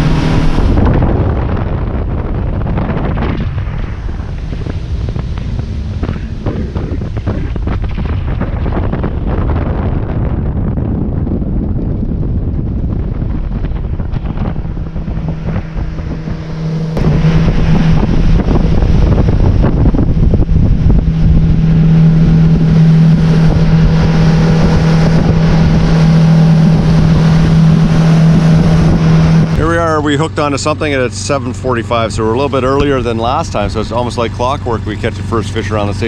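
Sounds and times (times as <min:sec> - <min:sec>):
water rushing: 0:00.0 - 0:10.4, 0:12.5 - 0:36.0
outboard motor drone: 0:00.0 - 0:36.0
wind on the microphone: 0:00.0 - 0:36.0.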